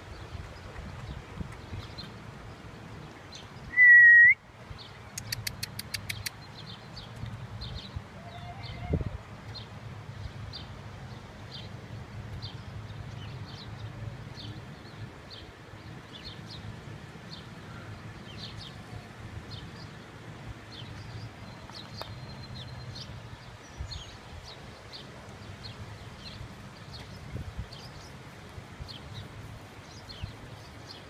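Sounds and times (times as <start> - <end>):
small birds chirping: 4.7 - 31.0.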